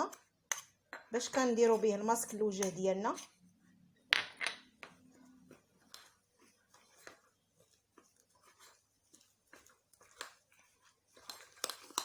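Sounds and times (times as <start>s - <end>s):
spoon stirring in a bowl: 0.0s - 12.0s.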